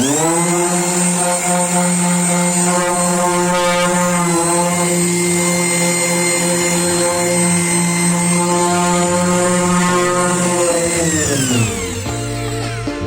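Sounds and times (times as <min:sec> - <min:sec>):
power tool motor whining: 0:00.0 - 0:13.0.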